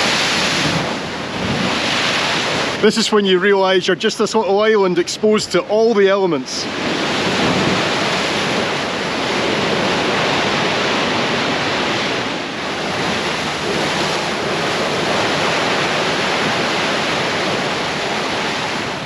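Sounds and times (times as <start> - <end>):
wind buffeting microphone: 0.0 - 5.9, 6.5 - 19.0
sea surf: 0.0 - 19.0
stormy wind: 0.0 - 19.0.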